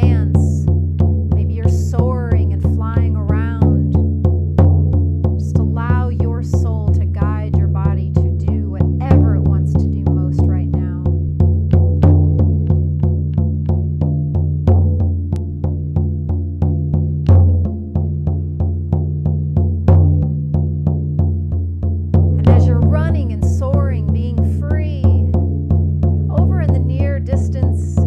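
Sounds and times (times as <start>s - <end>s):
frame drum struck with beater: 0.0s - 28.0s.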